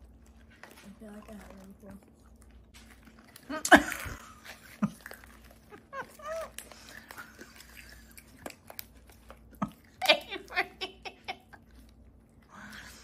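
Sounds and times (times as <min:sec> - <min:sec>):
candy crunching: 0:00.0 - 0:13.0.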